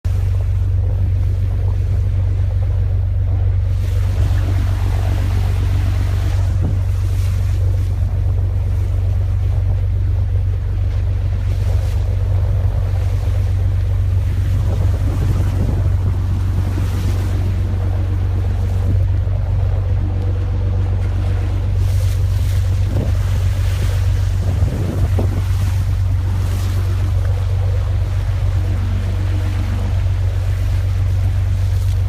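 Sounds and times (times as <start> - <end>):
boat engine droning: 0.0 - 32.0
sea water: 0.0 - 32.0
wind noise on microphone: 0.0 - 32.0.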